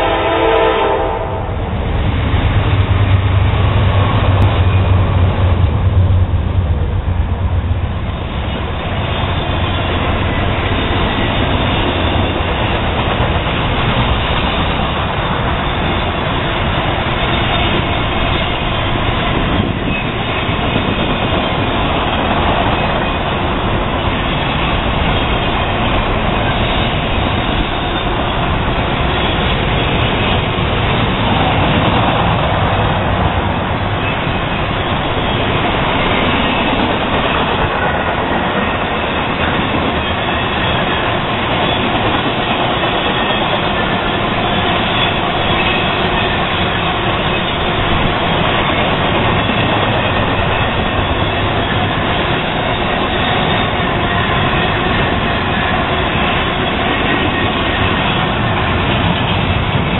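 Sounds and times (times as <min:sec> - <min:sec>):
diesel locomotive engine drone: 0:00.0 - 0:59.9
train cars rolling on rails: 0:00.0 - 0:59.9.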